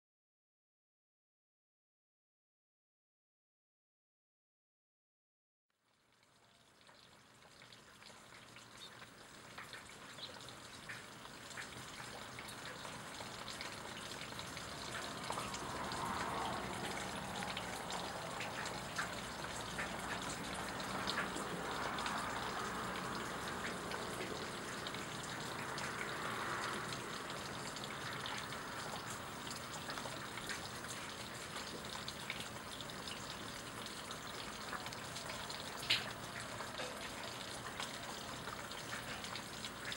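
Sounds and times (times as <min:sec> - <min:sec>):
steady rain falling: 0:05.8 - 0:39.9
water drips: 0:05.8 - 0:39.9.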